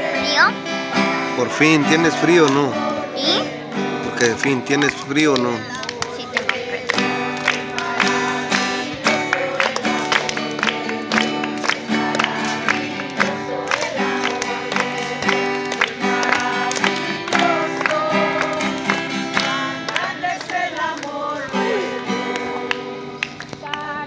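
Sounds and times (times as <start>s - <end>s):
acoustic guitar strummed: 0.0s - 23.8s.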